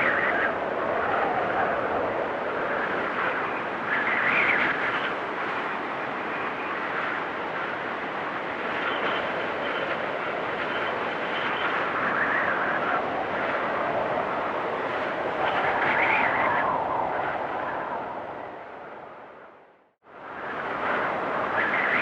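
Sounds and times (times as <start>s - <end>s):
high wind whistling: 0.0s - 22.0s
wind blowing in gusts: 0.0s - 22.0s.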